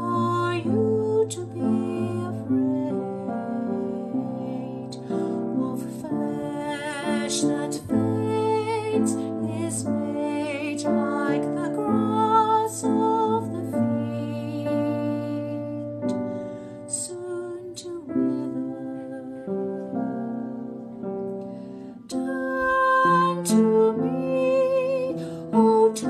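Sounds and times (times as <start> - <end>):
woman singing a hymn: 0.0 - 16.2, 16.8 - 20.7, 22.1 - 26.0.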